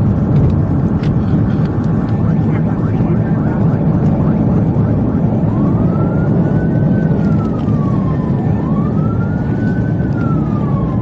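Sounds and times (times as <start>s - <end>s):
police siren wailing: 0.0s - 11.0s
vehicle and road rumble: 0.0s - 11.0s.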